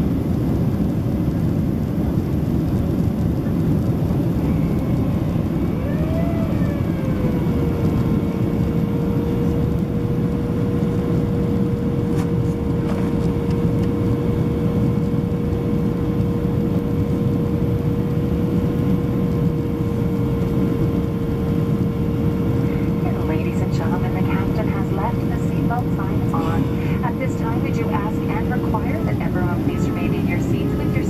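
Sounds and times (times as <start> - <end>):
engine and airflow rush: 0.0 - 31.0
engine whine: 0.0 - 31.0.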